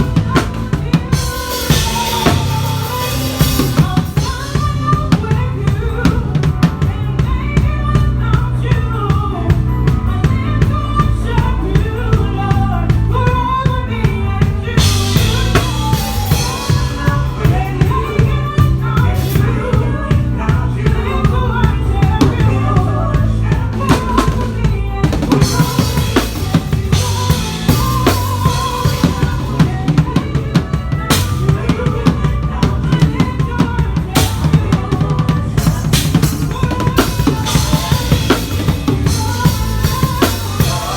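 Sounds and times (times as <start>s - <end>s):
band playing: 0.0s - 40.9s
drum kit strokes: 0.0s - 40.9s.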